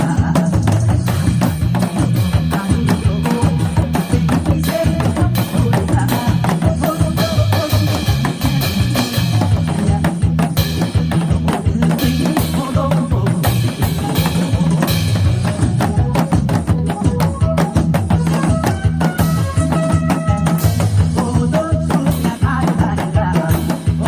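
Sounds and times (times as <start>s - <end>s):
song backing track with drum beat: 0.0s - 24.0s.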